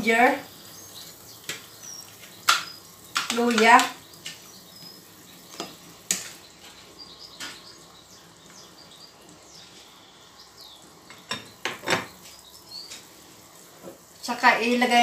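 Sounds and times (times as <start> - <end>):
broth boiling and being stirred: 0.0 - 15.0.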